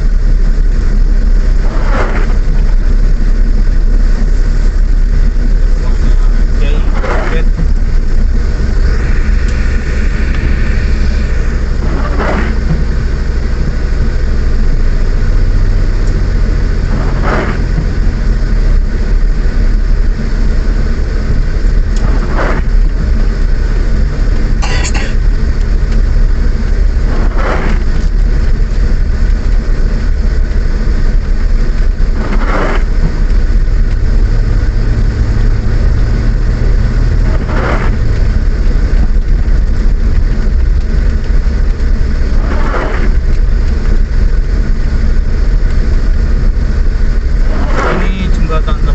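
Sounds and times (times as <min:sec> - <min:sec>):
car engine and road noise: 0:00.0 - 0:48.9
windscreen wipers sweeping: 0:00.0 - 0:48.9.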